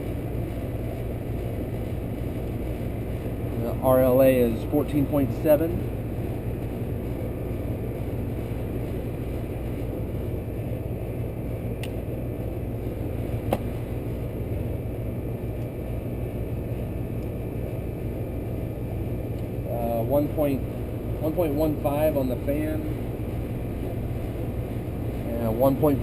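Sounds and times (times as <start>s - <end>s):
air conditioner unit humming: 0.0s - 26.0s.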